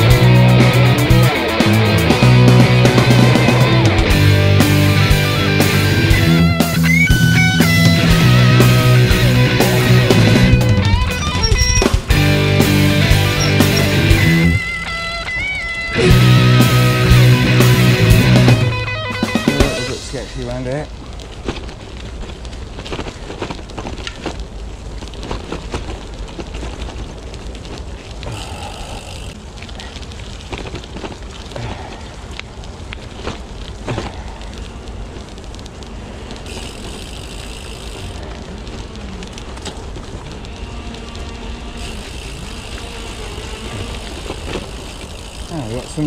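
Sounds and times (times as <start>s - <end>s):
bike rattles and clicks: 0.0s - 18.6s, 19.4s - 46.0s
bike tyres crunching on gravel: 0.0s - 46.0s.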